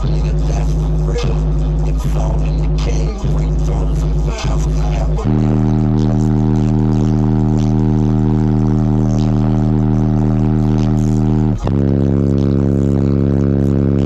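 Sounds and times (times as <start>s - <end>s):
subwoofers playing sustained bass: 0.0s - 14.0s.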